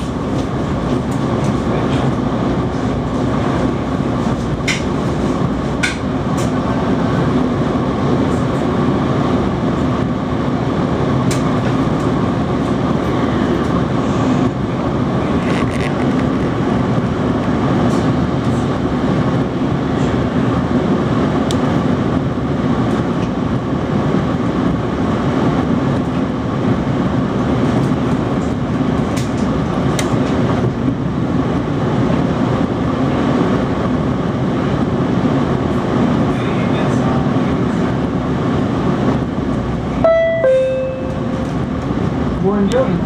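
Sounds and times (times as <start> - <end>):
train rumble on rails: 0.0 - 43.0.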